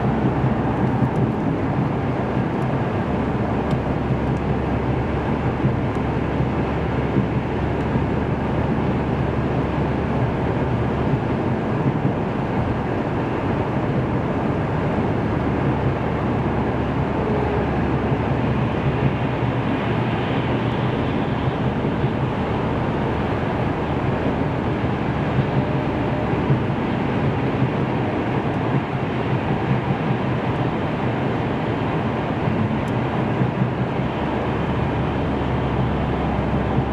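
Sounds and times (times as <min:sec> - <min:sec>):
low engine hum: 0:00.0 - 0:36.9
wind noise: 0:00.0 - 0:36.9.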